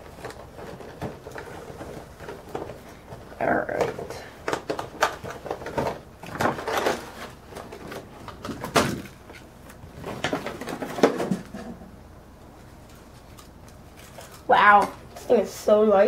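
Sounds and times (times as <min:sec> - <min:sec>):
plastic tray crinkling and rustling: 0:00.0 - 0:11.9, 0:12.6 - 0:15.3.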